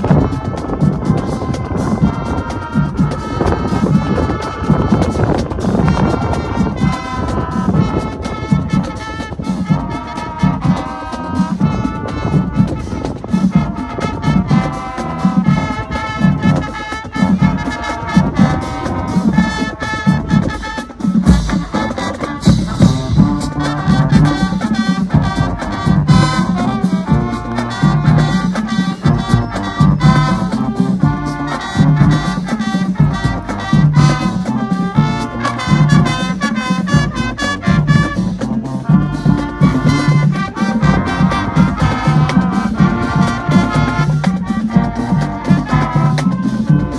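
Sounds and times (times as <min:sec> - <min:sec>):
drumline beat: 0:00.0 - 0:46.9
loud brass melody: 0:00.0 - 0:46.9
marching band playing: 0:00.0 - 0:46.9.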